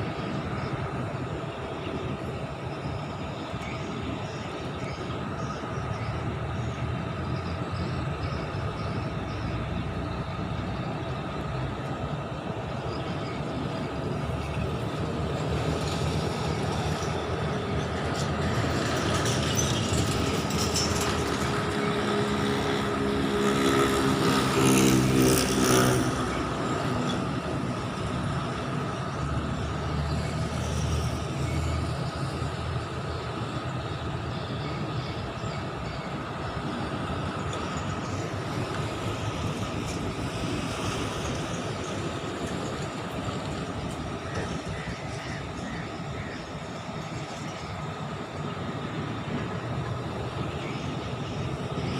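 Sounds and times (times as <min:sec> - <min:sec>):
traffic rumble: 0:00.0 - 0:51.9.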